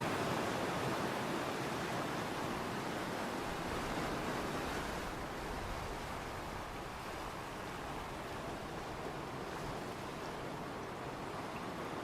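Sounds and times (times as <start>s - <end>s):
waves washing onto shore: 0.0s - 12.0s.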